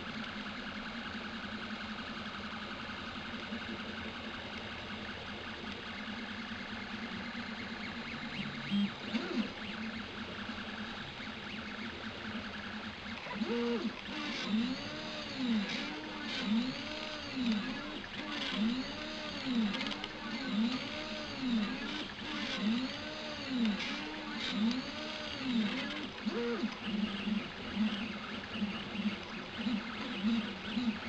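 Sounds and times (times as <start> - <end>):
printer stepper motors whining: 0.0 - 31.0.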